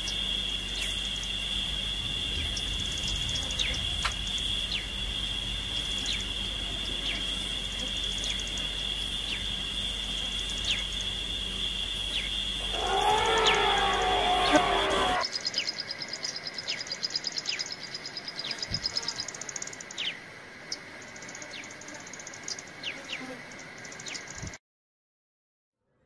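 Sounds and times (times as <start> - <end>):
falling insect chirps: 0.0 - 24.5
insect drone: 0.0 - 24.6.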